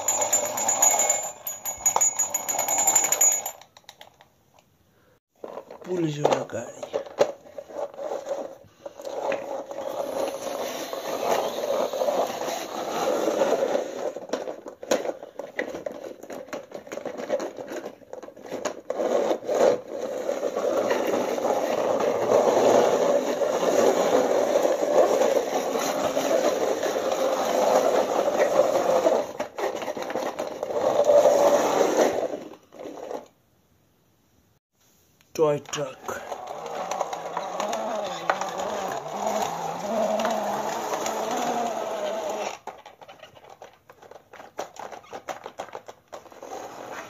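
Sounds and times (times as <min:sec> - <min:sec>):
toy car wheels scraping floor: 0:00.0 - 0:04.0, 0:05.4 - 0:33.4, 0:35.7 - 0:47.0.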